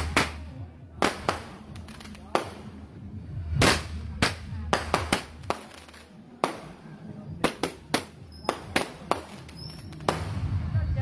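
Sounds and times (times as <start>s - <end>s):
firework bangs and pops: 0.0s - 2.8s, 3.5s - 10.6s.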